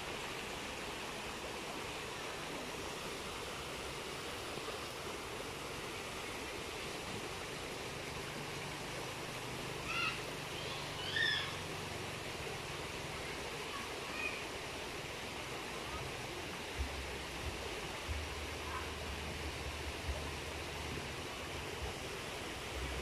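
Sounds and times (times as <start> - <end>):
flowing creek water: 0.0 - 23.0.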